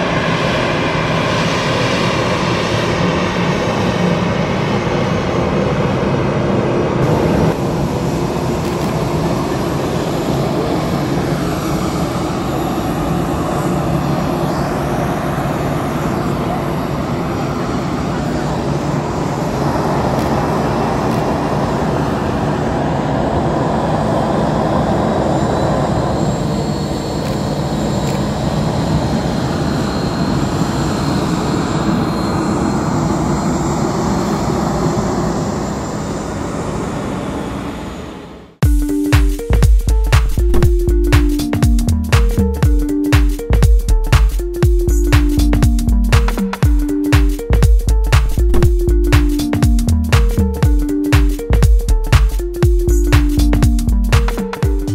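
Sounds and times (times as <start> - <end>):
jet engines running with whine: 0.0 - 54.9.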